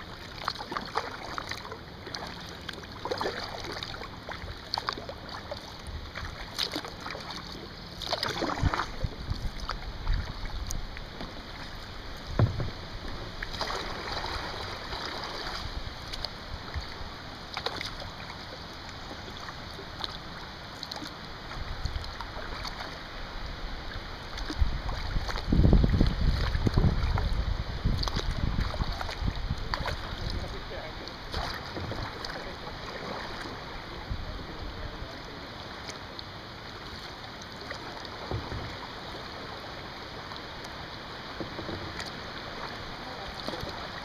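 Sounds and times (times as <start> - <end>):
paddle strokes splashing: 0.0 - 44.0
water washing along hull: 0.0 - 44.0.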